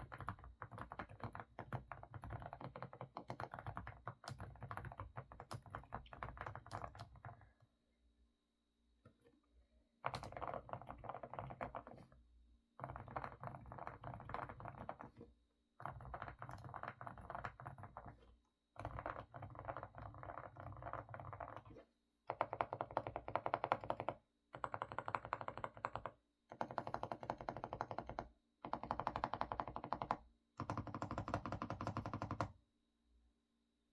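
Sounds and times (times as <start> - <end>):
fast typing on mechanical keyboard: 0.0 - 7.6, 10.0 - 12.0, 12.8 - 15.2, 15.8 - 32.6.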